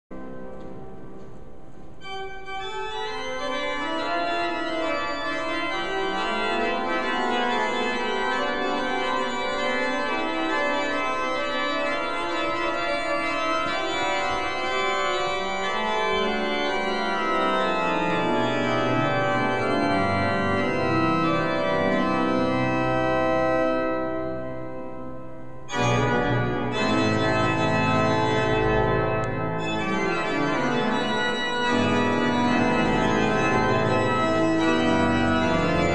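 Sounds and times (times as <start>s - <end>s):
pipe organ playing chords: 0.2s - 35.9s.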